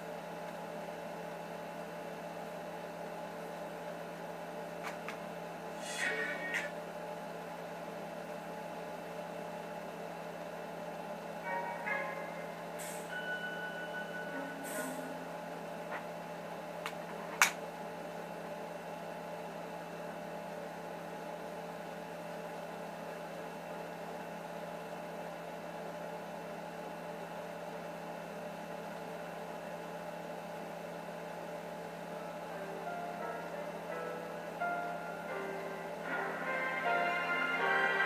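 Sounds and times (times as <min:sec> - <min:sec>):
room tone hum: 0:00.0 - 0:38.0.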